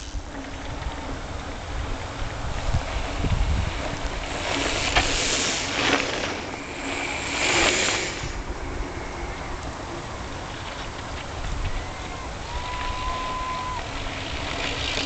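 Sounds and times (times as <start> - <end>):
bike tyres crunching on gravel: 0.0 - 15.0
wind rumble on microphone: 0.0 - 15.0.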